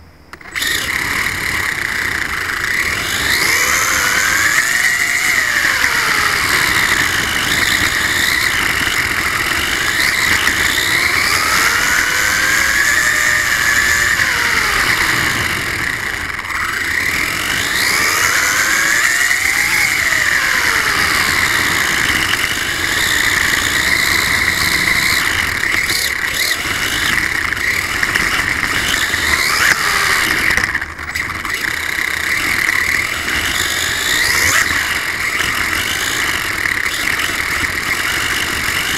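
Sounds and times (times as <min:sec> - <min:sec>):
small tyres on rough pavement: 0:00.0 - 0:38.9
electric toy car motor whine: 0:00.3 - 0:38.9.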